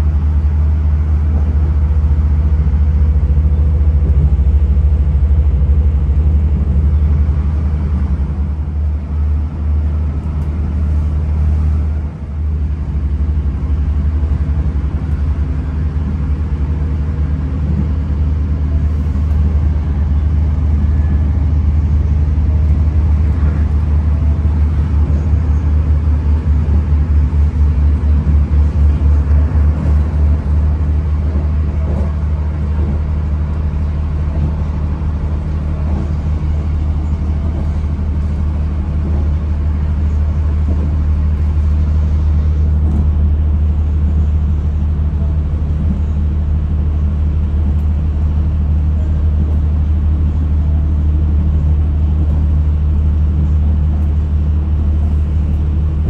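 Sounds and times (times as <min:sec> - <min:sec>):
train rumbling from inside carriage: 0:00.0 - 0:56.0.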